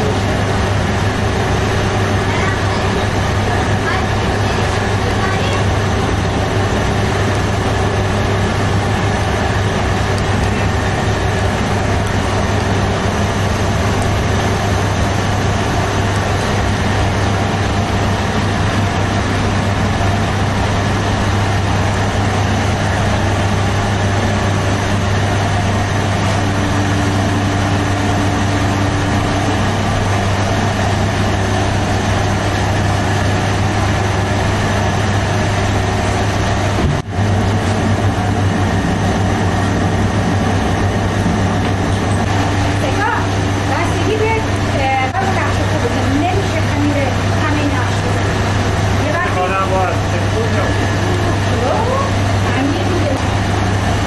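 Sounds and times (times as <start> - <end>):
machinery droning: 0.0 - 54.0.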